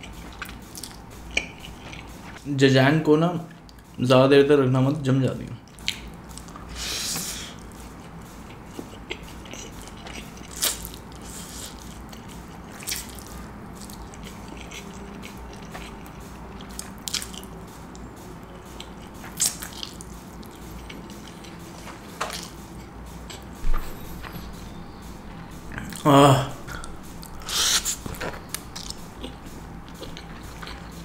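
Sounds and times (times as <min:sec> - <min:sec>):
chewing: 0:00.0 - 0:02.4, 0:05.7 - 0:31.0.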